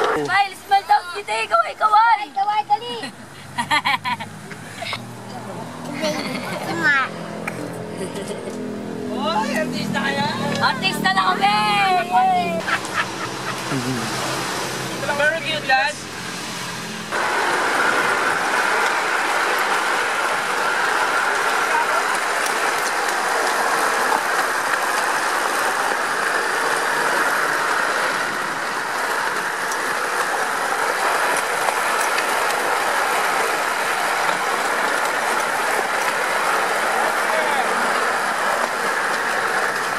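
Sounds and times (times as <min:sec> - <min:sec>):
steel wheels rolling on rails: 0:00.0 - 0:03.0, 0:03.6 - 0:39.9.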